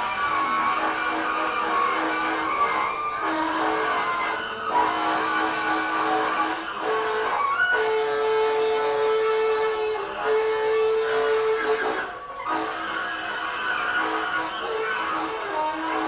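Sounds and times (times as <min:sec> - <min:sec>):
saxophones and electric guitar noise: 0:00.0 - 0:16.0.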